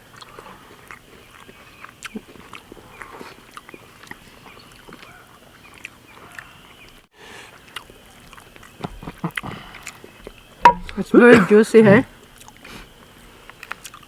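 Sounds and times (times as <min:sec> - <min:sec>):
chewing and lip smacks: 0:00.0 - 0:11.1, 0:12.1 - 0:14.0.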